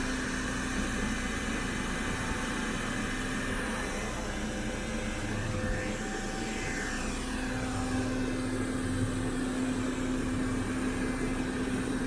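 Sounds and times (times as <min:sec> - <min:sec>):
robot vacuum cleaner droning: 0:00.0 - 0:12.0.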